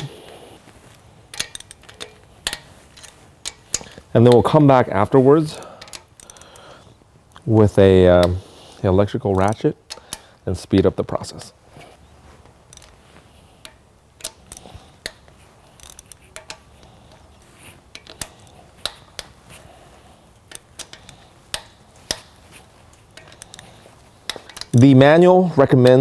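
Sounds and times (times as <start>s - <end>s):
hand tool clicking on bolts: 0.0s - 10.9s, 12.4s - 26.0s.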